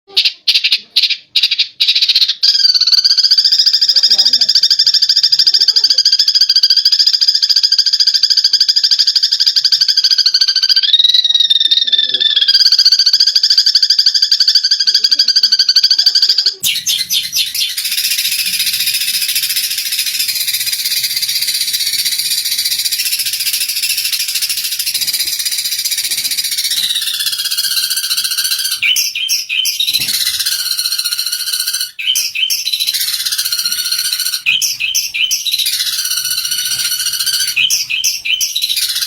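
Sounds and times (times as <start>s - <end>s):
fast even bird trill: 0.1s - 39.0s
sparrows chattering: 0.1s - 39.0s.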